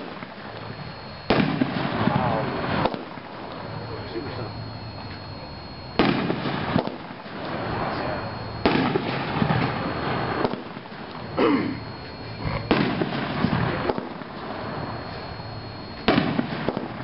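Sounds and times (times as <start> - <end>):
fireworks shots: 0.0 - 17.0.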